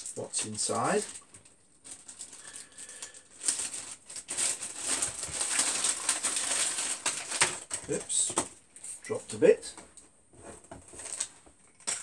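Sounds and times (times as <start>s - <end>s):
plastic bag crinkling: 0.0s - 8.3s, 10.6s - 12.0s.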